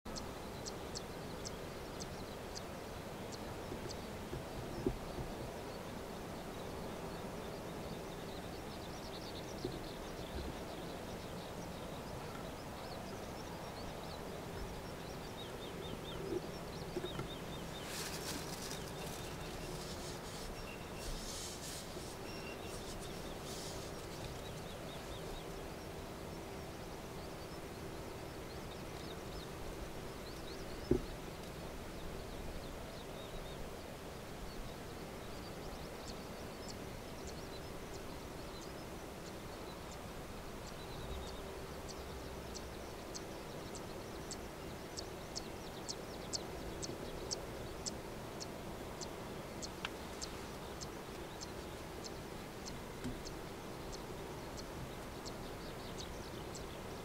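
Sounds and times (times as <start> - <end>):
small birds chirping: 0.1 - 57.0.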